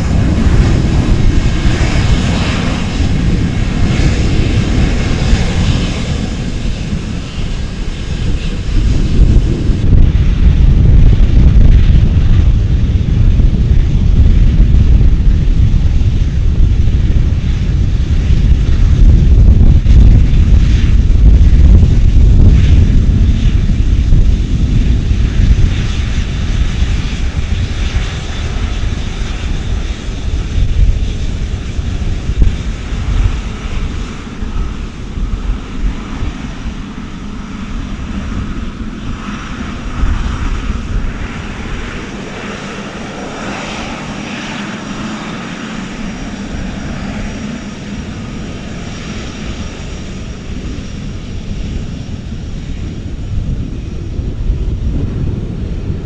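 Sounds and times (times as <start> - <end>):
airplane engines passing: 0.0 - 56.0.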